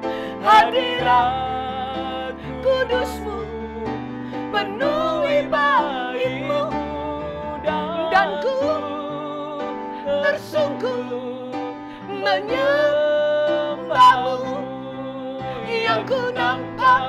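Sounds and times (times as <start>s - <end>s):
man and woman singing: 0.1s - 17.0s.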